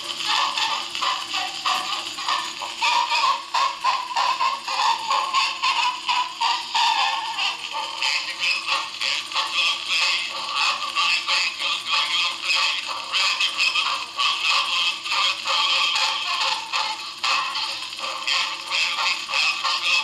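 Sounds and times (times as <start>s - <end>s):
phonograph playing dance-band music: 0.0s - 20.0s.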